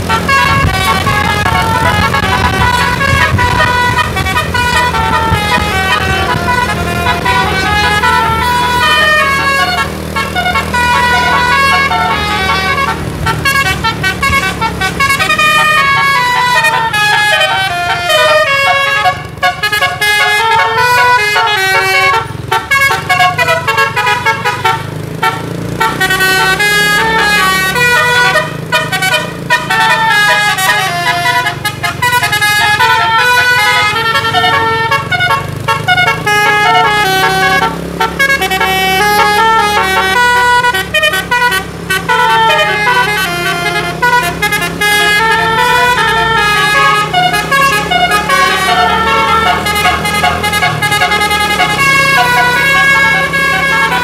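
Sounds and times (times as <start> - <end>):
low engine drone: 0.0 - 54.0
musical bus air horn: 0.0 - 54.0.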